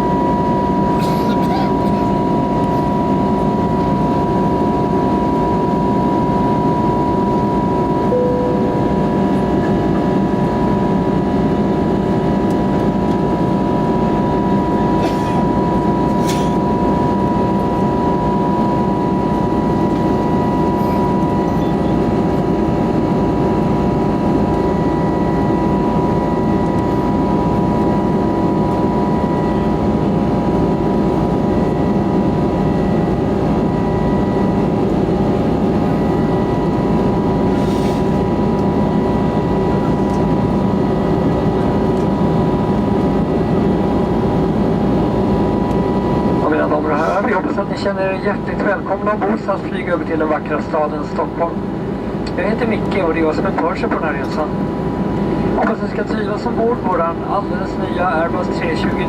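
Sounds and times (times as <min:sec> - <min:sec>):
airplane cabin engine and airflow noise: 0:00.0 - 0:59.0
constant engine whine: 0:00.0 - 0:59.0.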